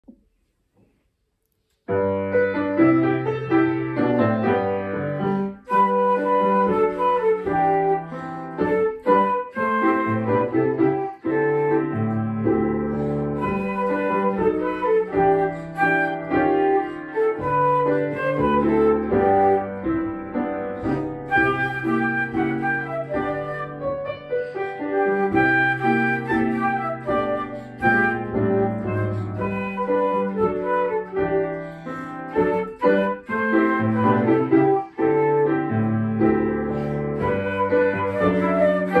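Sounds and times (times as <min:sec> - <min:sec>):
piano playing: 0:01.9 - 0:39.0
flute playing: 0:04.5 - 0:39.0.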